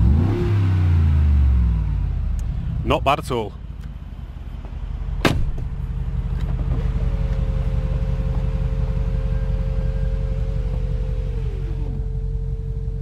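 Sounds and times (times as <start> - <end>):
deep exhaust rumble: 0.0 - 13.0.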